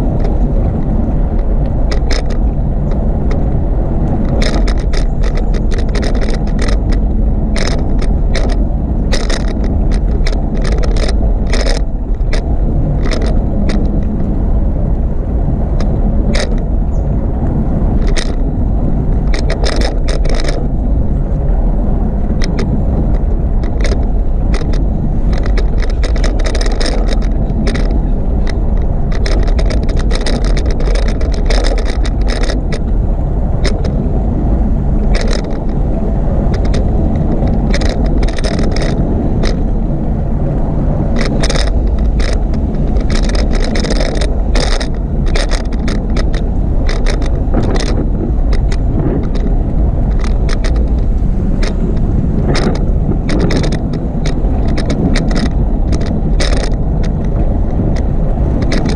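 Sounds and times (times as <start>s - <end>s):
bicycle rattles and clicks: 0.0s - 58.9s
bicycle rolling on pavement: 0.0s - 58.9s
wind rush: 0.0s - 58.9s.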